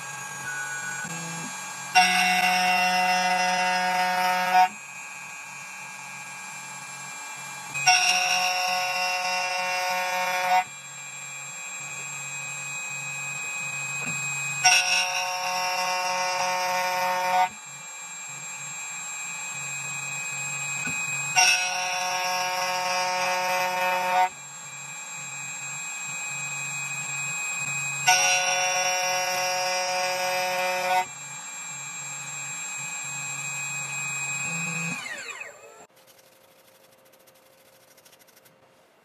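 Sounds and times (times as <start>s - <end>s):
cutter whining in metal: 0.0s - 35.9s.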